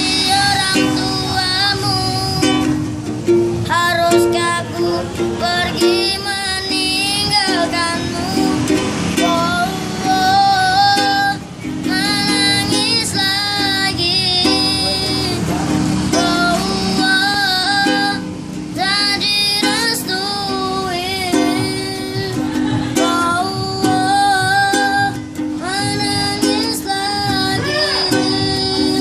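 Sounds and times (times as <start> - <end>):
child singing: 0.0 - 2.8, 3.6 - 29.0
plucked string instrument: 0.0 - 29.0.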